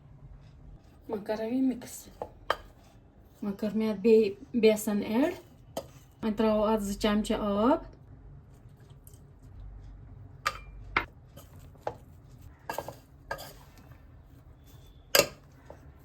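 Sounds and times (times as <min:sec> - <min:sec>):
batter being mixed in a bowl: 0:00.8 - 0:06.3, 0:08.4 - 0:16.0.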